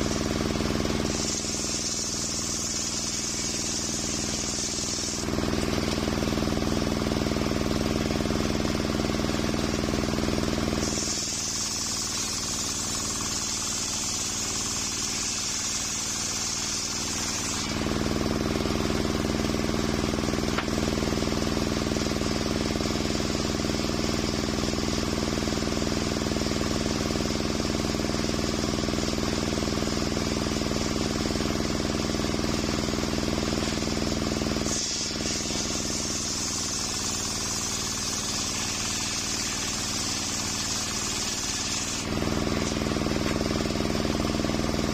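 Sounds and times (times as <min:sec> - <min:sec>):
circular saw cutting wood: 0:00.0 - 0:26.1, 0:28.4 - 0:44.9.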